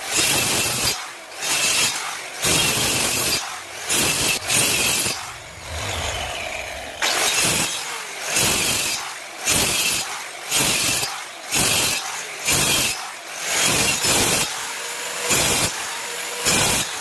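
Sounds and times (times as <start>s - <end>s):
hand saw cutting wood: 0.0s - 17.0s.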